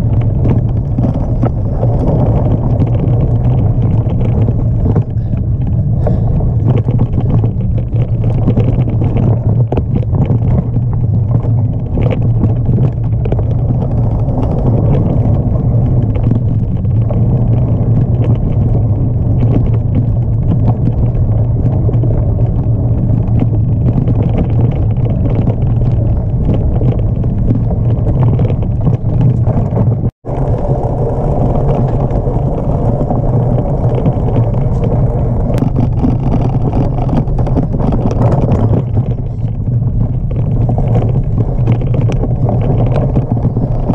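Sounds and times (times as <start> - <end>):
bike rattles and knocks: 0.0 - 43.9
wind rumble on microphone: 0.0 - 43.9.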